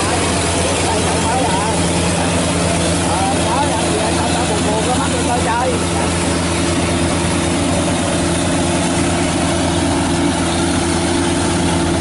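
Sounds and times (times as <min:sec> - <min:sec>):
harvester engine drone: 0:00.0 - 0:12.0.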